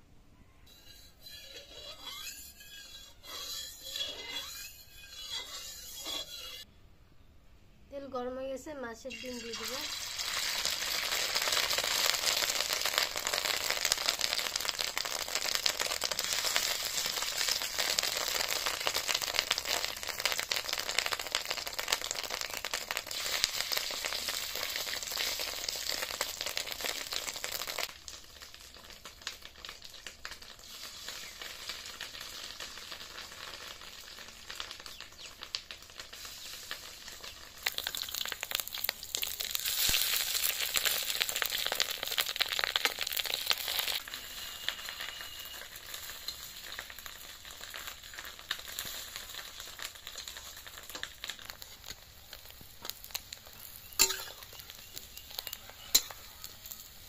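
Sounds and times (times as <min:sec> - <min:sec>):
batter sizzling in hot oil: 0:00.7 - 0:06.7, 0:09.0 - 0:57.0.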